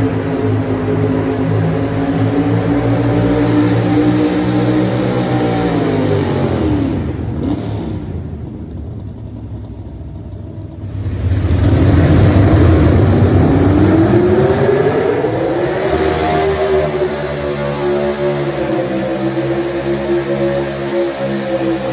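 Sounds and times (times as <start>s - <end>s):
truck engine revving: 0.0s - 9.2s, 10.5s - 21.9s.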